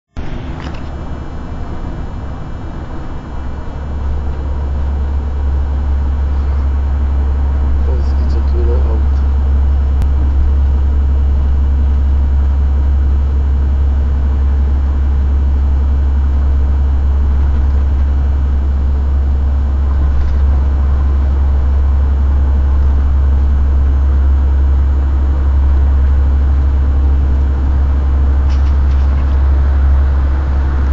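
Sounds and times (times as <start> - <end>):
engine and road noise in cab: 0.0 - 30.9.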